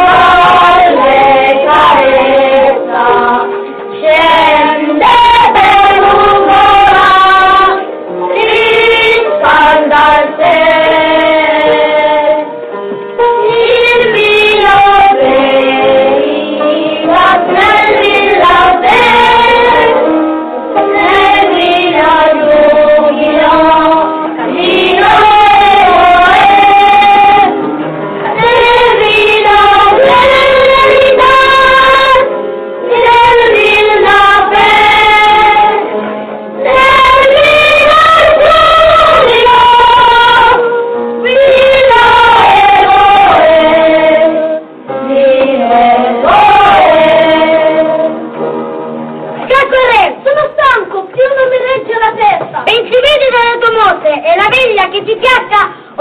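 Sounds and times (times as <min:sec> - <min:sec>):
children singing: 0:00.0 - 0:12.5, 0:13.2 - 0:20.2, 0:20.8 - 0:27.6, 0:28.2 - 0:36.0, 0:36.6 - 0:48.2.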